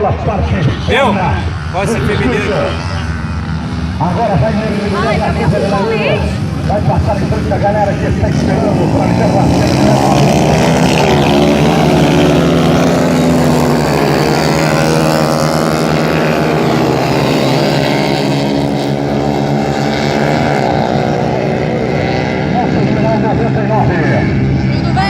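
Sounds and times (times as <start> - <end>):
racing motorcycle engines: 0.0 - 25.0.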